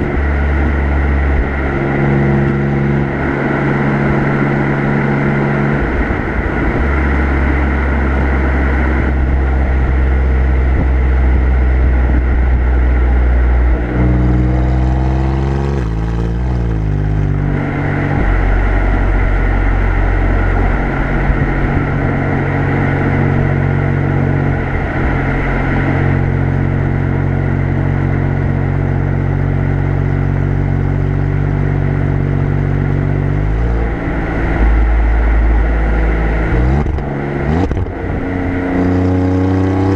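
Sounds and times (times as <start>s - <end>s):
car exhaust cruising: 0.0s - 39.9s.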